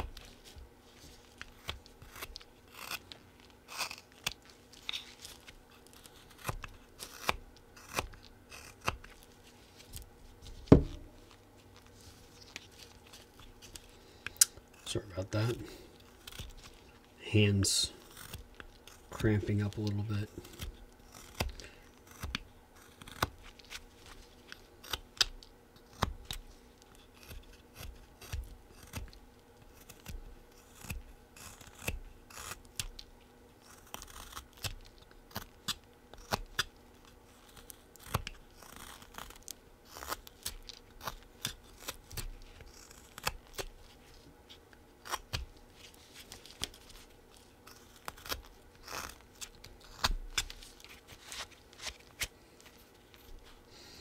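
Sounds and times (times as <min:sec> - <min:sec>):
knife paring wood shavings: 0:00.0 - 0:54.0.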